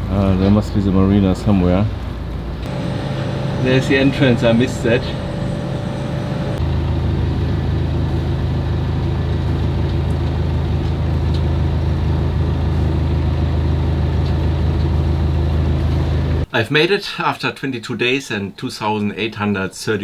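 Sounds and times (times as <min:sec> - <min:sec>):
diesel engine running: 0:00.0 - 0:16.5.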